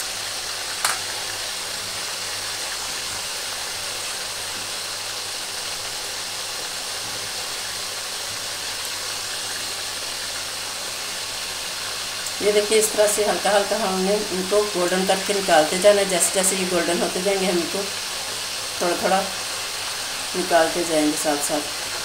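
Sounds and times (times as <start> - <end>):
oil sizzling and bubbling: 0.0 - 22.0.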